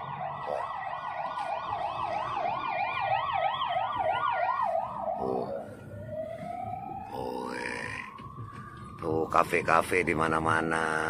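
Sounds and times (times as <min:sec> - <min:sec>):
ambulance siren: 0:00.0 - 0:11.0.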